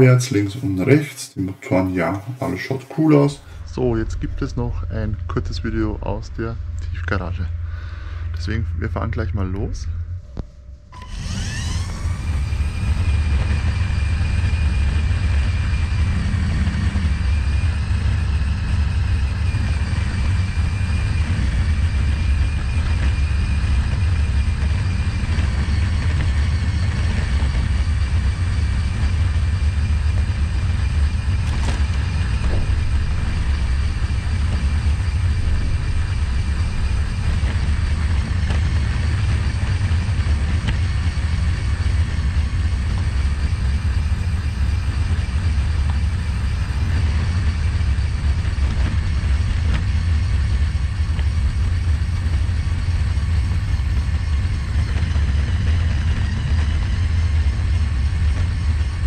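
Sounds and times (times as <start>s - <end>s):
electric motors whining: 0.0s - 5.4s, 9.9s - 59.0s
loud low rumble: 0.0s - 59.0s.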